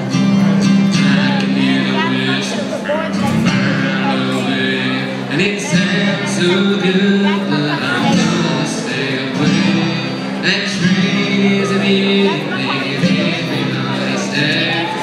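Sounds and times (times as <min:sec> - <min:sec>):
man singing: 0:00.0 - 0:15.0
strummed acoustic guitars: 0:00.0 - 0:15.0.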